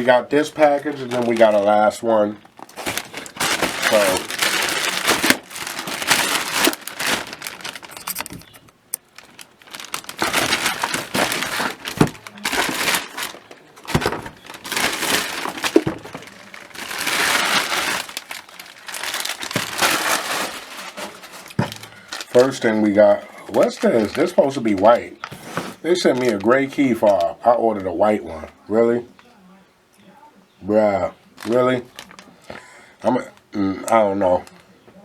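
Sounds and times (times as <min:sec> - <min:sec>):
packaging crinkling and rustling: 0:00.0 - 0:28.1, 0:31.4 - 0:34.8.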